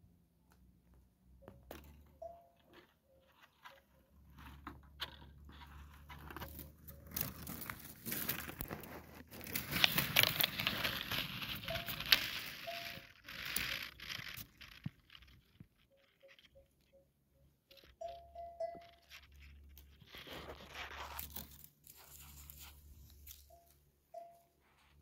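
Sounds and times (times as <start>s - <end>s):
dry grass crackling and rustling: 2.7s - 17.0s, 17.7s - 25.0s.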